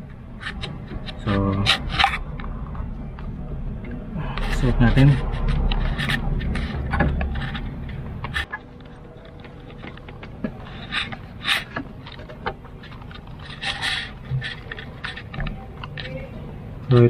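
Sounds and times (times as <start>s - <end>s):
wires rustling through grommet: 0.4s - 3.0s, 4.2s - 17.0s.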